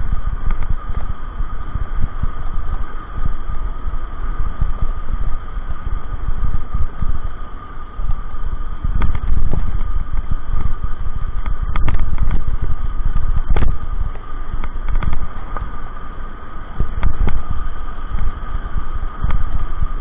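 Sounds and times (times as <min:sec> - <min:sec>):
steady hum: 0:00.0 - 0:20.0
wind buffeting microphone: 0:00.0 - 0:20.0.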